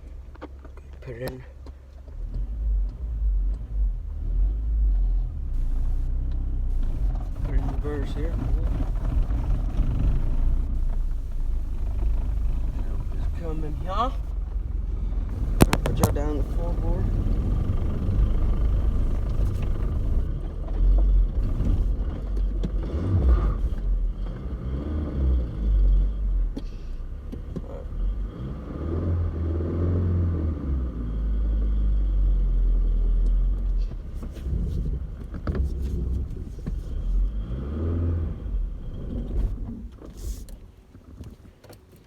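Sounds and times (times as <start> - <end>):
pickup engine revving: 2.4 - 39.8.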